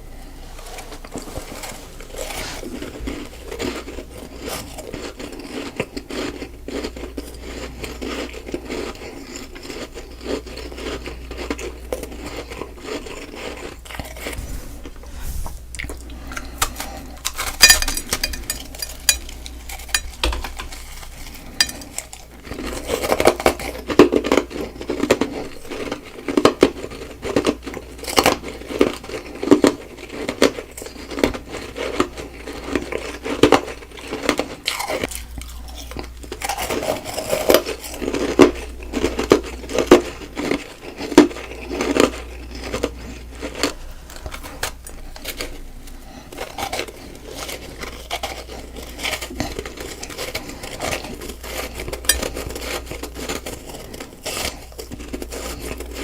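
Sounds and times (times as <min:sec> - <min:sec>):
person chewing crunchy ice: 0:00.1 - 0:56.0.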